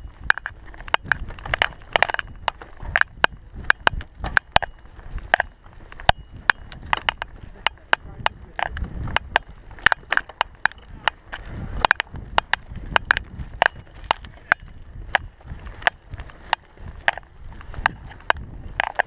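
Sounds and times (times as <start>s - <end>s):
bike rattling over bumps: 0.0s - 19.0s
tyres rumbling: 0.0s - 19.0s
wind: 0.0s - 19.0s.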